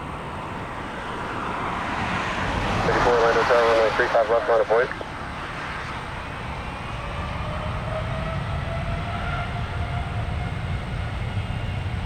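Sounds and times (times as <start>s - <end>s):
faint rising engine whine: 0.0s - 12.0s
jet engines rumbling: 0.0s - 12.0s.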